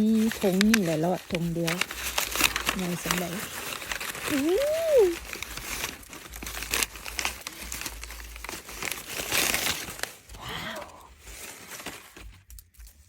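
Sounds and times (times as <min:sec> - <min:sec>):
plastic bag crinkling and rustling: 0:00.0 - 0:13.0.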